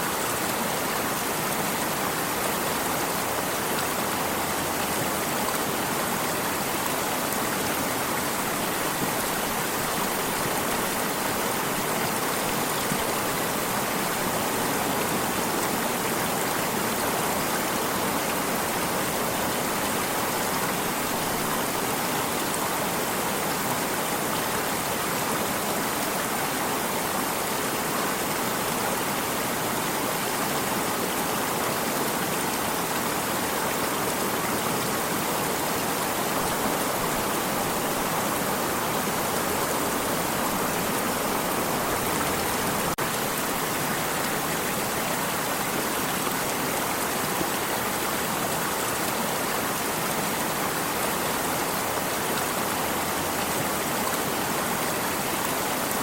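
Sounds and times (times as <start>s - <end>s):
water stream rushing: 0.0s - 56.0s.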